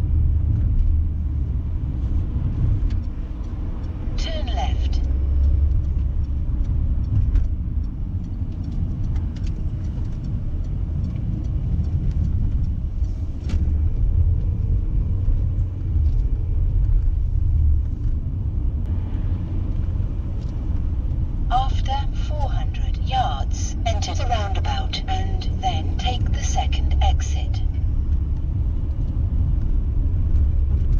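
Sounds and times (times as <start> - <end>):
car road noise rumble: 0.0 - 30.9.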